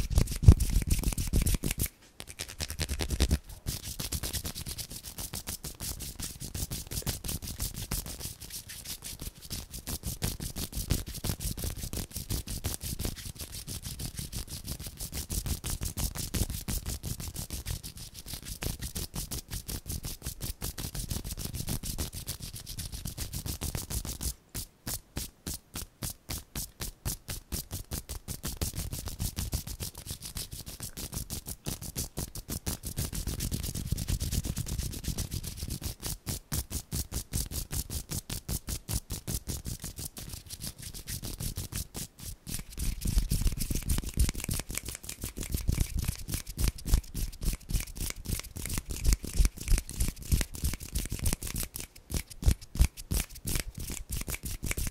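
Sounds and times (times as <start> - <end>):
palms rubbing together: 0.0 - 54.9.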